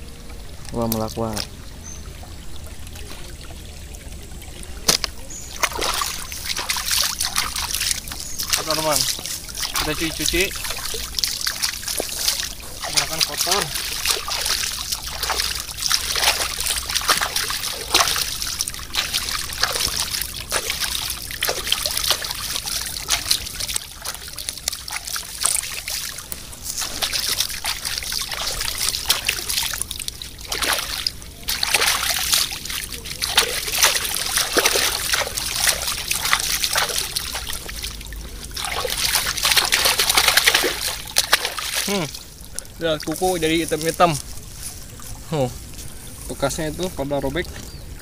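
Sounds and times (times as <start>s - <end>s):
water trickling: 0.0s - 48.0s
hands scrubbing and splashing water: 4.7s - 48.0s.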